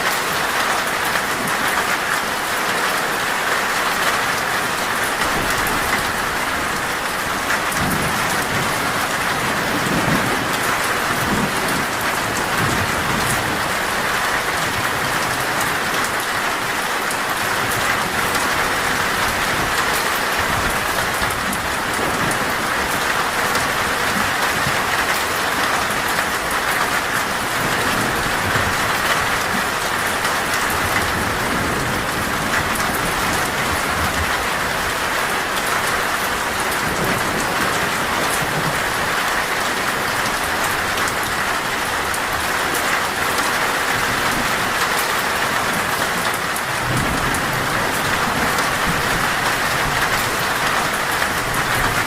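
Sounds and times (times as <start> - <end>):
heavy rain on a metal roof: 0.0 - 52.0.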